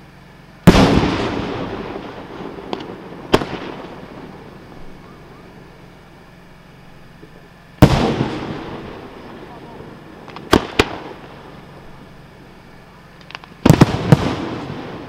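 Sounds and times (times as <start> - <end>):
faint firework crackle: 0.0 - 15.0
low steady background noise: 0.0 - 15.0
sharp firework report: 0.0 - 15.0
firework shell booming: 0.6 - 6.4, 7.0 - 15.0.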